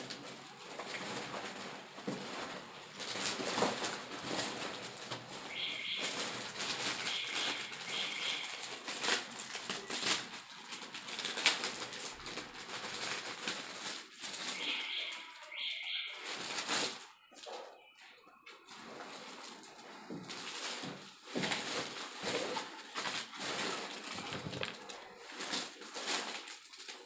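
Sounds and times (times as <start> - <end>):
plastic bag crinkling: 0.0 - 27.0.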